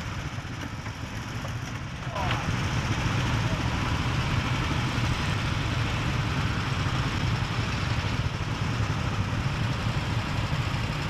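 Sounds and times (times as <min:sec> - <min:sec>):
go-kart engine idling: 0:00.0 - 0:11.0.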